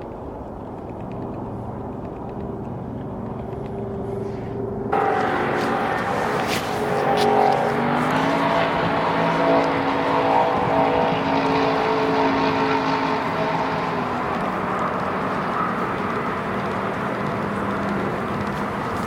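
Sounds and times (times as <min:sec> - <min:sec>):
motor engine droning: 0:00.7 - 0:19.0.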